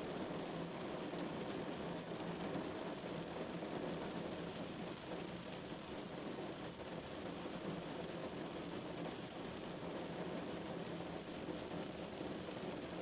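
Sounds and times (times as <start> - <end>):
rain pattering on a car: 0.0 - 13.0.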